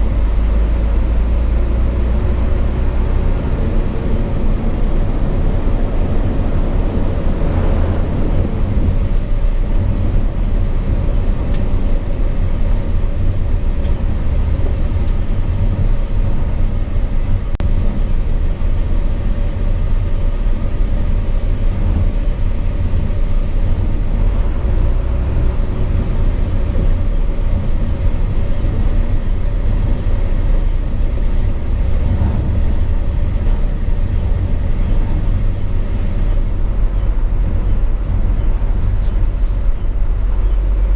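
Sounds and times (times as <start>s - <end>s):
diesel truck engine running: 0.0s - 40.9s
road and tyre noise: 0.0s - 40.9s.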